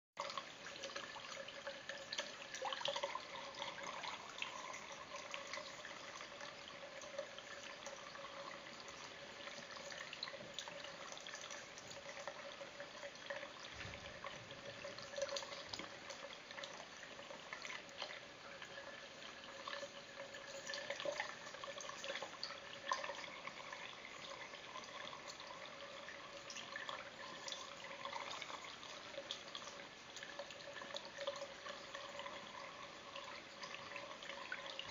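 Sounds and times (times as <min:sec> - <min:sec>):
tap water running into sink: 0:00.2 - 0:34.9
water splashes and drips: 0:00.2 - 0:34.9.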